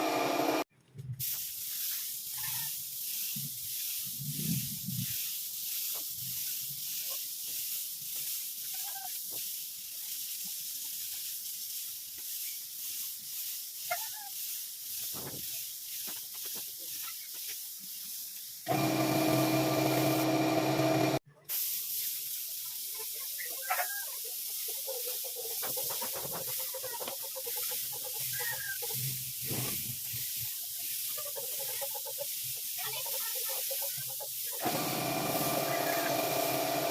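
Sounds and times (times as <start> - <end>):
paint spray gun hissing: 1.2 - 36.9.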